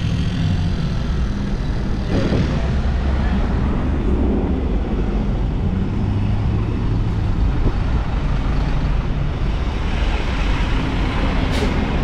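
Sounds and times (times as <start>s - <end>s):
motor vehicle rumbling: 0.0s - 12.0s
road and wind noise: 0.0s - 12.0s.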